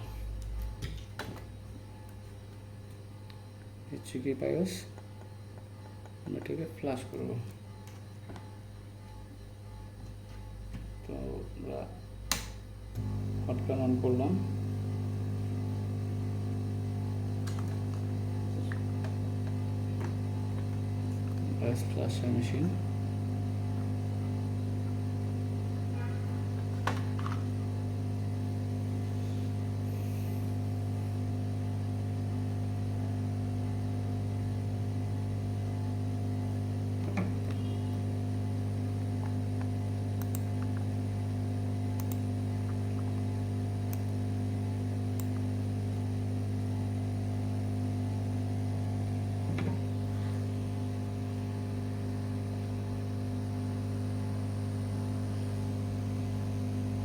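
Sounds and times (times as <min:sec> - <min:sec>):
electrical hum with hiss: 0:00.0 - 0:57.0.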